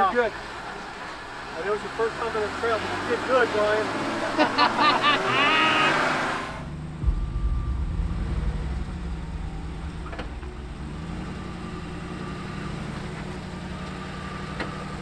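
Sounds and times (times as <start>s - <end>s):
engine rumbling at low speed: 0.0s - 15.0s.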